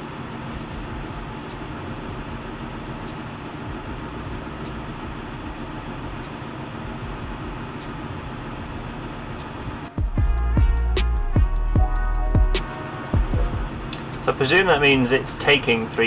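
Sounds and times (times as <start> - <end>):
fast regular ticking: 0.0 - 11.5, 12.6 - 16.0
diesel engine idling: 0.0 - 16.0.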